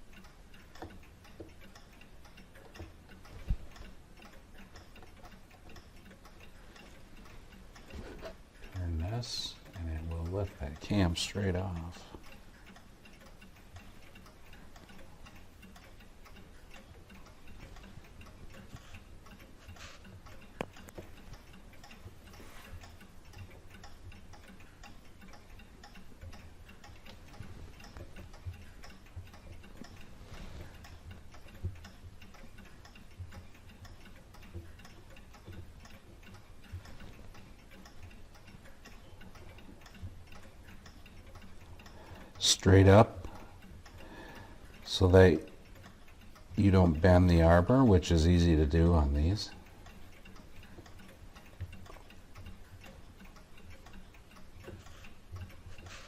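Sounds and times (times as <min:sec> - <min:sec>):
mechanical clock ticking: 0:00.0 - 0:56.0.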